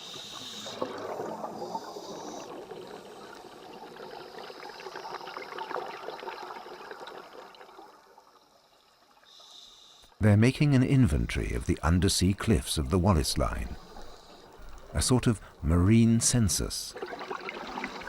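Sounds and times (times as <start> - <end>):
water bubbling and gurgling: 0.0 - 9.2, 10.8 - 18.0.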